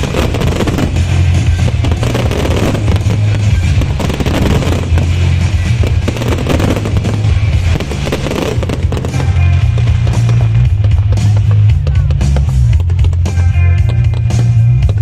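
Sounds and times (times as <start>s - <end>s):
fireworks crackling and popping: 0.0s - 15.0s
loud music with heavy bass: 0.0s - 15.0s.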